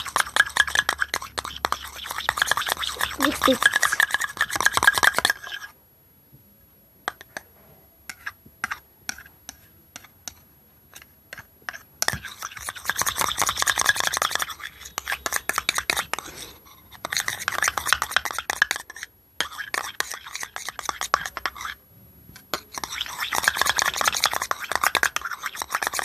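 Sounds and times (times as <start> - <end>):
metal spoon scraping slime in bowl: 0.0 - 5.8, 8.1 - 21.8, 22.4 - 26.0.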